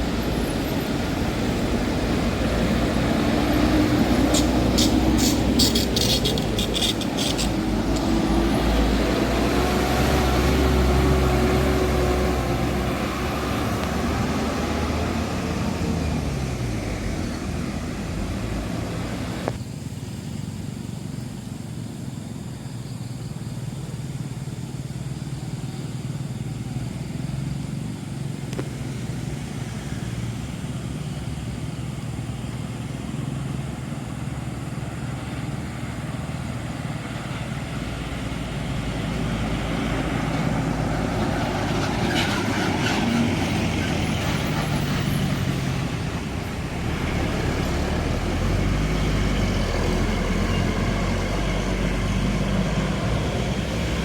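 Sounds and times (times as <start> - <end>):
bus passing: 0.0 - 54.0
steady road noise: 0.0 - 54.0.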